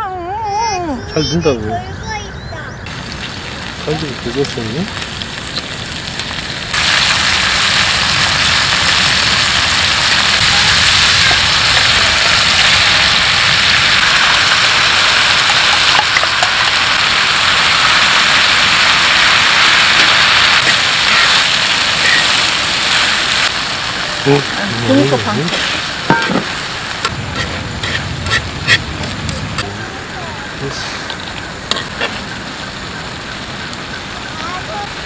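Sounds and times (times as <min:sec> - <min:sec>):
food sizzling on a griddle: 0:02.9 - 0:35.0.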